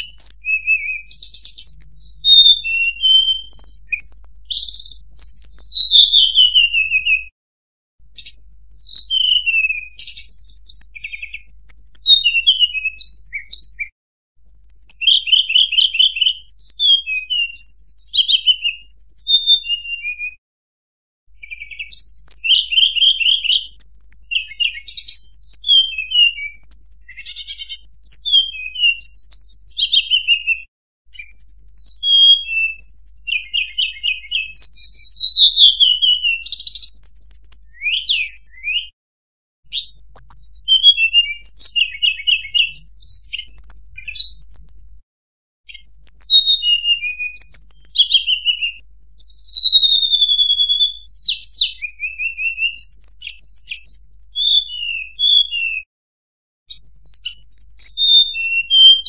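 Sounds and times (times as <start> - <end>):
bird song whistles and trills: 0.0 - 7.3, 8.2 - 20.4, 21.3 - 39.0, 39.6 - 45.0, 45.6 - 55.9, 56.7 - 59.0.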